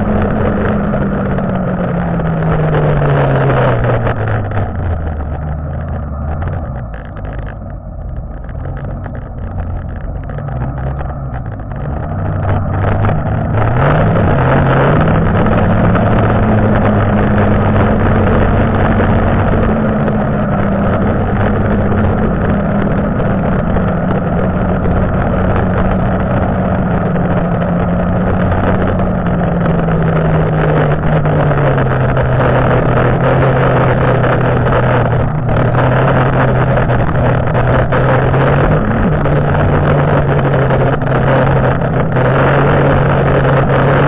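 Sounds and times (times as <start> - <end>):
rushing noise of track and wind: 0.0 - 44.0
snowmobile engine running: 0.0 - 44.0.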